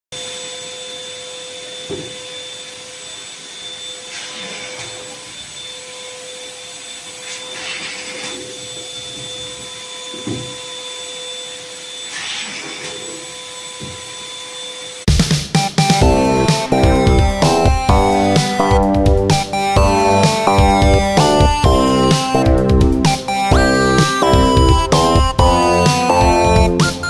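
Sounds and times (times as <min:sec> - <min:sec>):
balloon inflator motor whine: 0:00.2 - 0:27.0.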